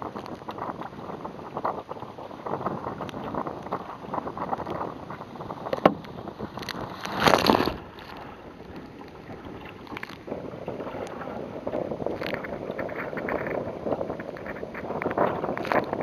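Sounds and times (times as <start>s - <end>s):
waves splashing against kayak hull: 0.0s - 16.0s.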